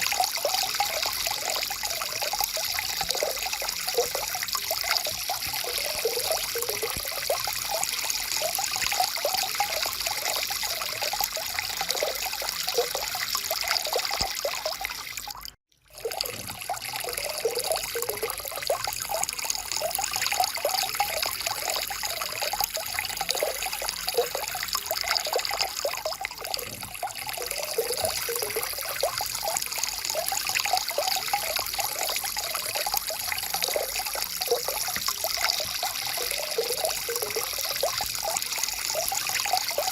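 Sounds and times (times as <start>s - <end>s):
stream water trickling and gurgling: 0.0s - 39.9s.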